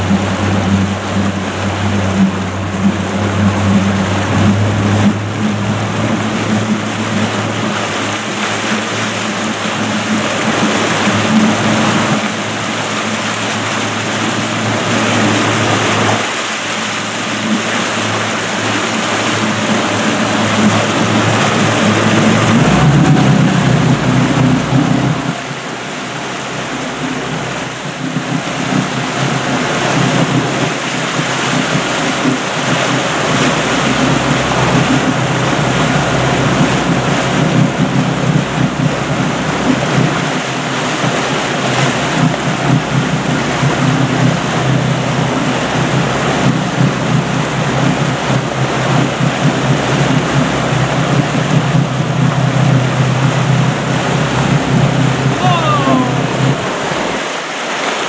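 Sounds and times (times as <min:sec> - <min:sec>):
boat engine running: 0:00.0 - 0:58.0
boat wake rushing: 0:00.0 - 0:58.0
wind buffeting microphone: 0:00.0 - 0:58.0.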